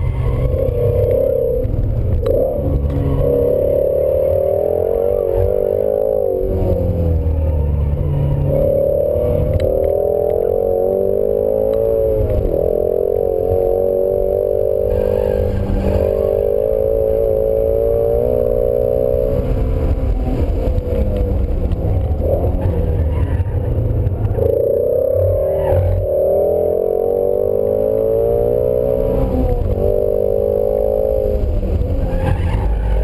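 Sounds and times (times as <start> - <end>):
car engine accelerating: 0.0 - 33.0
road and tyre rumble: 0.0 - 33.0.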